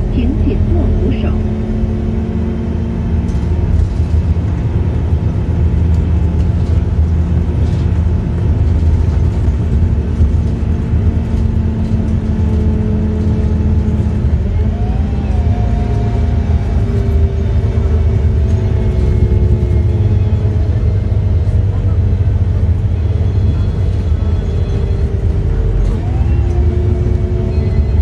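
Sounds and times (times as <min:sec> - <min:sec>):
bus engine running: 0:00.0 - 0:28.0
road noise: 0:00.0 - 0:28.0.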